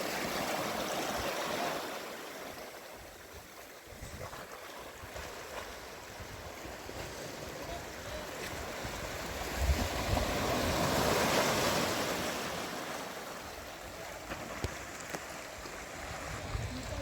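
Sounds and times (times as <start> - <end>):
sea waves breaking on rocks: 0.0 - 17.0.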